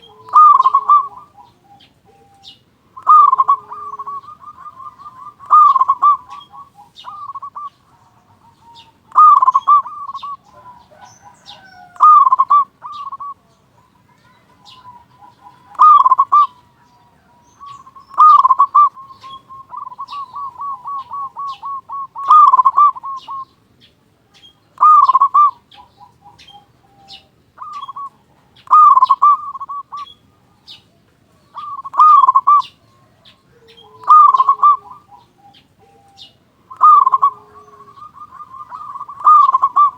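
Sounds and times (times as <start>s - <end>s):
dove cooing: 0.0s - 23.6s, 24.4s - 39.9s
small birds chirping: 0.0s - 39.9s.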